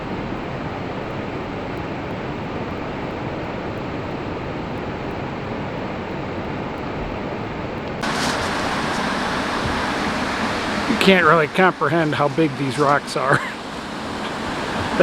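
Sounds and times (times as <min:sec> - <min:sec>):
river rushing over boulders: 0:00.0 - 0:15.0.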